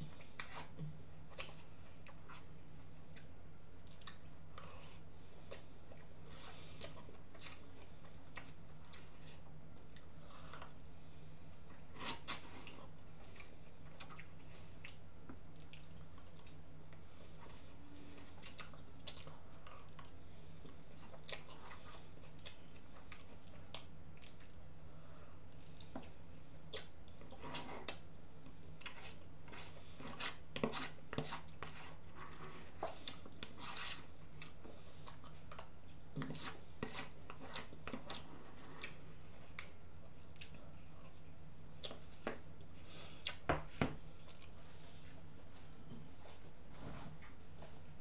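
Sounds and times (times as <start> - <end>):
steady low hum: 0.0 - 48.0
person chewing: 0.1 - 10.8, 11.7 - 16.6, 17.2 - 44.6.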